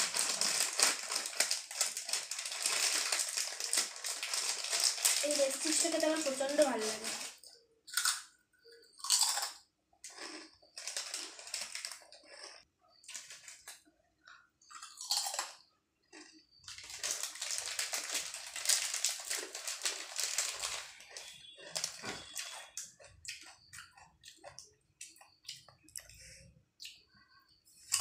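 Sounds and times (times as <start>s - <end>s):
chip packet crinkling: 0.0s - 8.3s, 9.0s - 13.8s, 14.7s - 24.6s
chips crunching: 0.0s - 8.3s, 9.0s - 13.8s, 14.7s - 26.1s.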